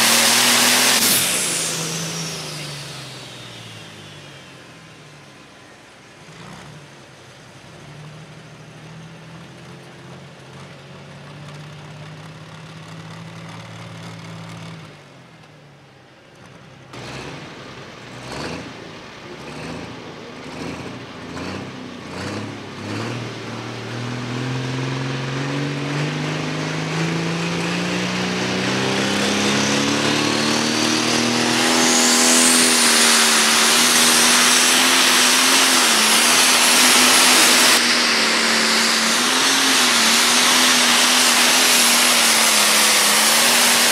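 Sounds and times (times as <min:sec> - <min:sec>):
diesel engine revving: 0:00.0 - 0:09.6, 0:16.4 - 0:43.9
tractor engine running steadily: 0:00.0 - 0:43.9.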